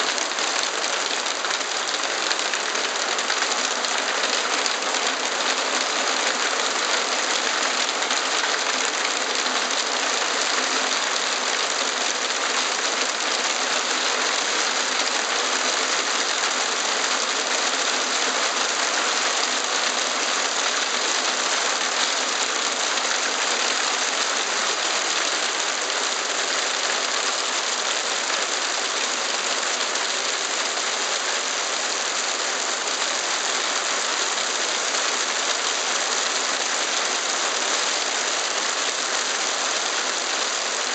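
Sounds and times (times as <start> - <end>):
hail and rain falling hard: 0.0 - 40.9.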